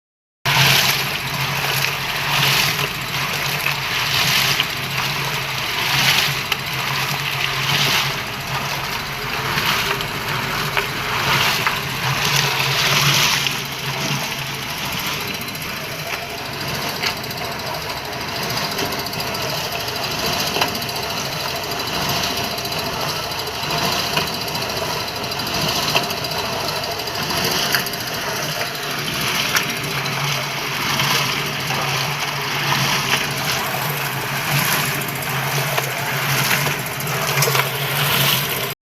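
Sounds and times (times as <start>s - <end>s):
electric concrete mixer running: 0.5s - 38.8s.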